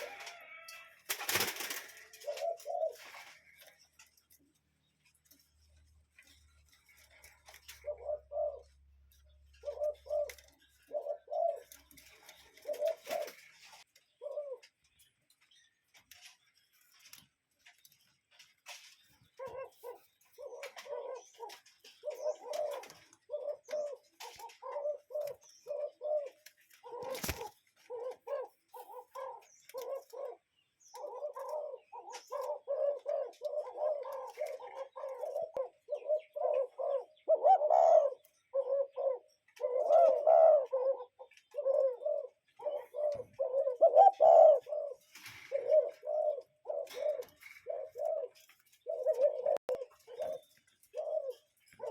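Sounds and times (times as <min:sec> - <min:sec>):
cuckoo calling: 0:00.0 - 0:03.9, 0:07.7 - 0:15.0, 0:19.4 - 0:51.9.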